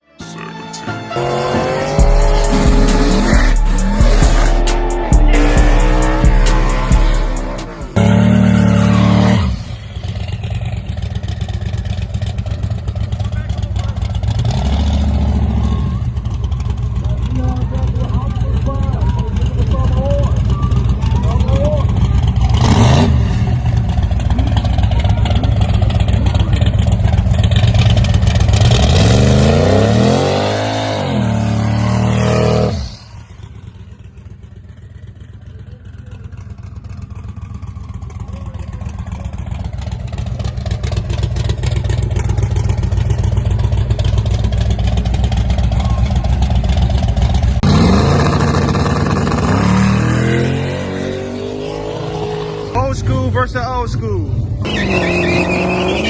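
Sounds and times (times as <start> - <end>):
racing engines revving: 0.9 - 34.2, 35.8 - 56.0.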